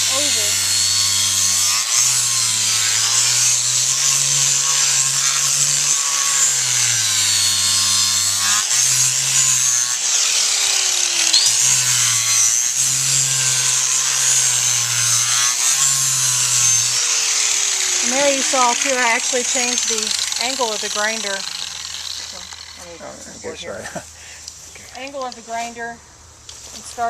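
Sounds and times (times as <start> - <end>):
grinder motor whine: 0.0 - 23.7
grinder sanding hoof: 0.0 - 25.8.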